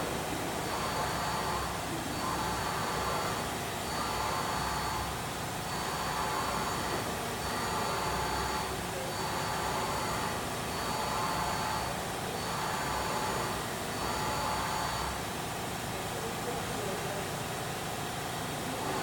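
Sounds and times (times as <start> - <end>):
machine whir and hiss: 0.0 - 19.0.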